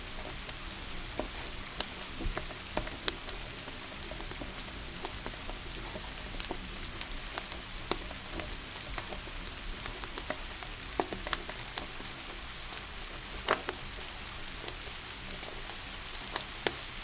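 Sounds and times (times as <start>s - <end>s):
steady rain hiss: 0.0s - 17.0s
wood fire crackling: 0.0s - 17.0s.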